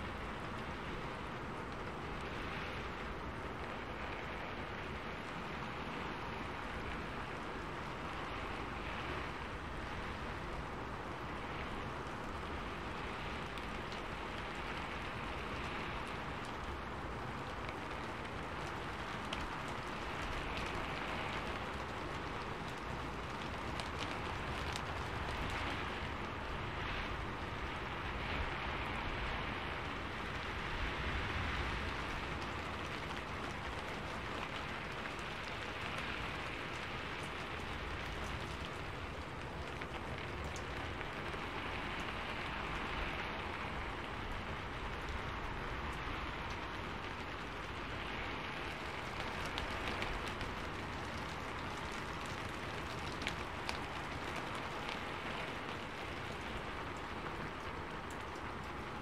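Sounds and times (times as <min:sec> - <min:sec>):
sharp raindrop ticks: 0:00.0 - 0:59.0
steady rain falling: 0:00.0 - 0:59.0.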